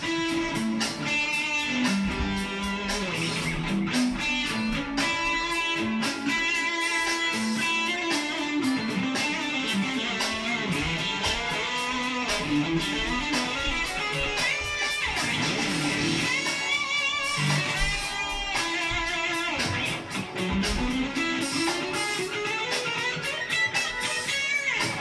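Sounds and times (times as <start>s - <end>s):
electric guitar solo: 0.0s - 25.0s.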